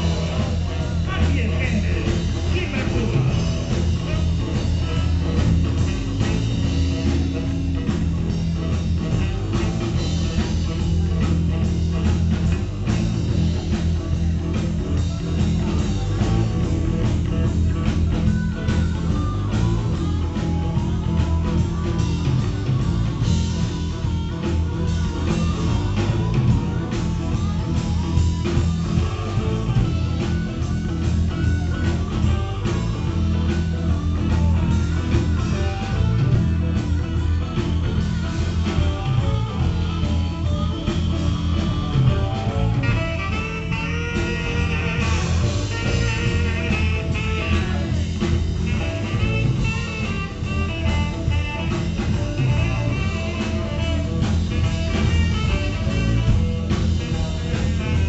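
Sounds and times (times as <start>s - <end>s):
bass: 0.0s - 58.0s
drums: 0.0s - 58.0s
electric guitars: 0.0s - 58.0s
harmonica: 0.0s - 58.0s
saxophone: 0.0s - 58.0s.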